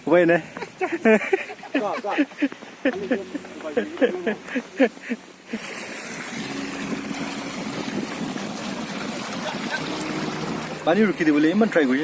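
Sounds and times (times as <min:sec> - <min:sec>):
stream water rushing: 0:00.1 - 0:12.0.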